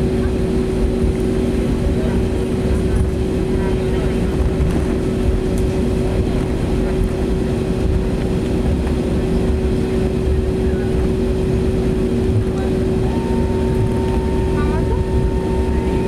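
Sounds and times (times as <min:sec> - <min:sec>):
airplane cabin drone: 0:00.0 - 0:16.0
constant hum: 0:00.0 - 0:16.0.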